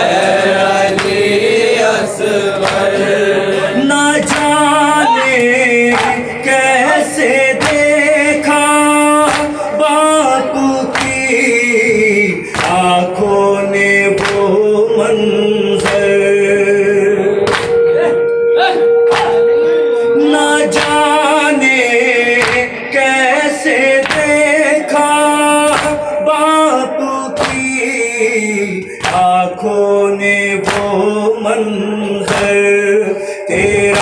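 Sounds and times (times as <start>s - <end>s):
men singing along: 0.0s - 17.8s, 19.1s - 34.0s
man singing a lament through microphone: 0.0s - 34.0s.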